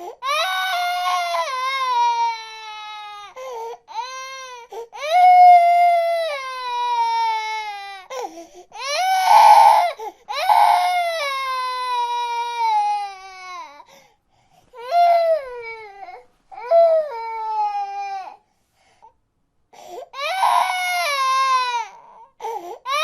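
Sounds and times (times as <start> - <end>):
baby crying: 0.0 - 13.9, 14.8 - 18.4, 20.1 - 23.0.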